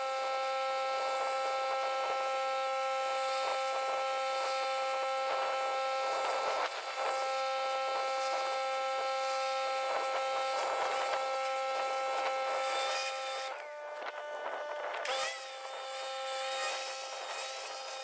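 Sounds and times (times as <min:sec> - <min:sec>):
pressure washer whine: 0:00.0 - 0:18.0.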